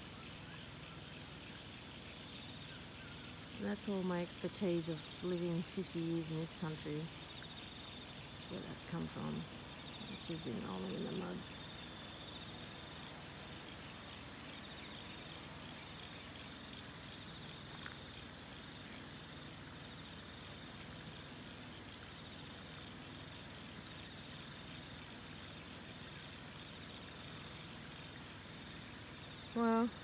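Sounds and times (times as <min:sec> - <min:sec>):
low even hiss: 0:00.0 - 0:30.0.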